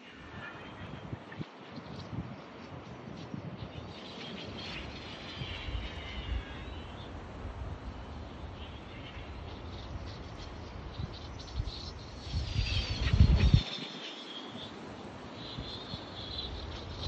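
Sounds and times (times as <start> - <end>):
wind buffeting microphone: 0.0 - 14.1
faint high-pitched chirping: 0.0 - 17.0.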